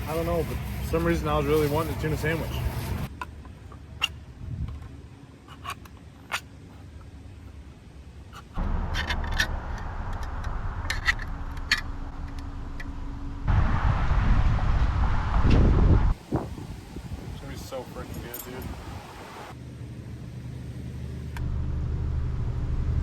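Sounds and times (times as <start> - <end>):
low steady background noise: 0.0 - 13.5, 16.2 - 21.4.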